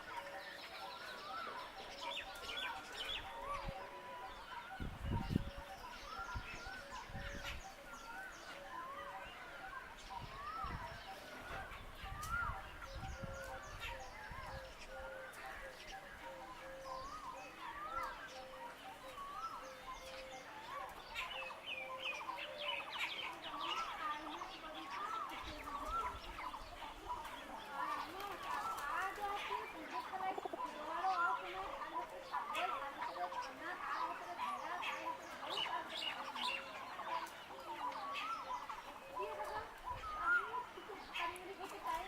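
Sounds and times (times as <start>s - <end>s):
birds calling: 0.0s - 42.0s.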